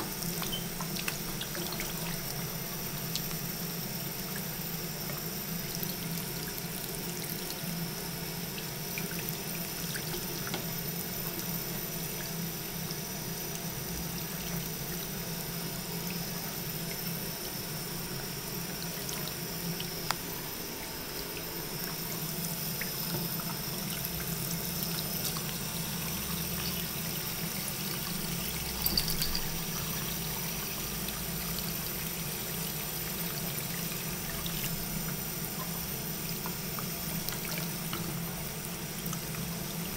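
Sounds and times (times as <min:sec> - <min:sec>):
faucet running: 0:00.0 - 0:39.9.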